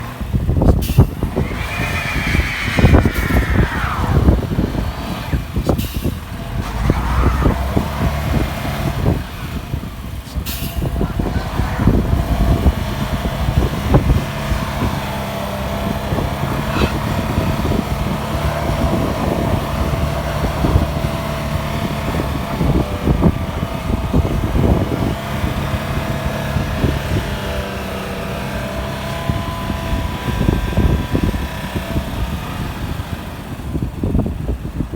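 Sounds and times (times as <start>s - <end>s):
car engine rumbling under load: 0.0s - 34.9s.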